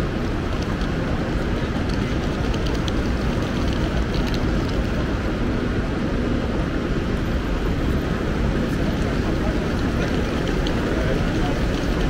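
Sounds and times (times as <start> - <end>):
high-speed train rumbling: 0.0 - 12.0.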